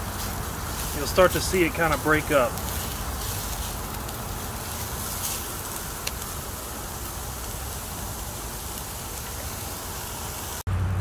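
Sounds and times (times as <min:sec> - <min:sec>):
sausage and onions sizzling in oil: 0:00.0 - 0:10.7.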